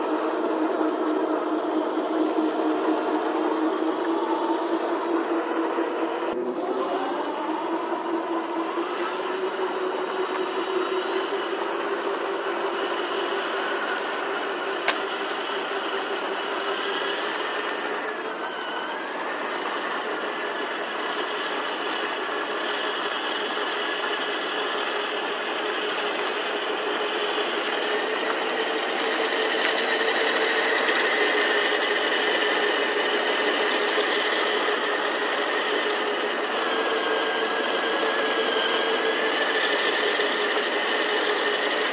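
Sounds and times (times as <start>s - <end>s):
toy tank motor whine: 0.0s - 41.9s.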